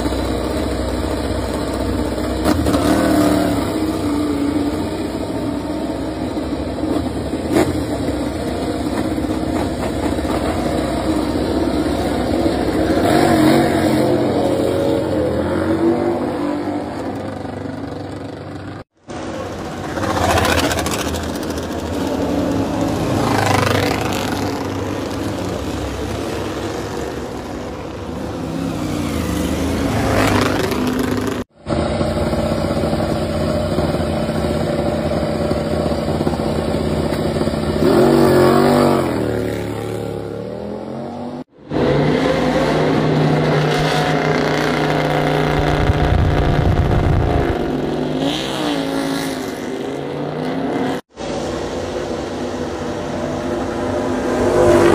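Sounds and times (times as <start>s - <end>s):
racing motorcycle engines revving: 0.0s - 54.9s.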